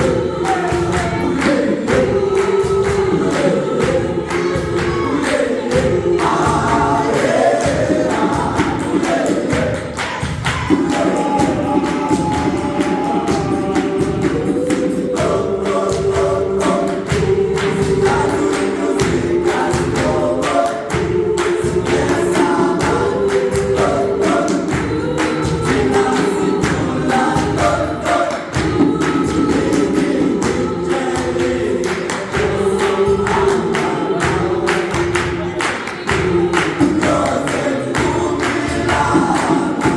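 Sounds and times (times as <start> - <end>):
fast percussive beat: 0.0 - 39.9
gospel choir singing: 0.0 - 39.9.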